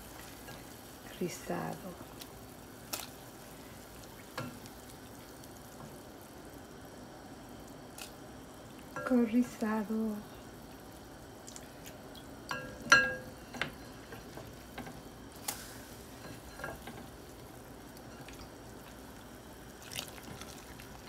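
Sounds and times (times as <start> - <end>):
soup bubbling in a pot: 1.9 - 9.2, 10.2 - 21.0.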